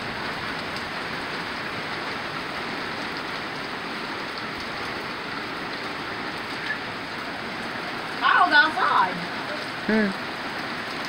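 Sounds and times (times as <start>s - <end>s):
heavy rain on deck: 0.0s - 11.0s.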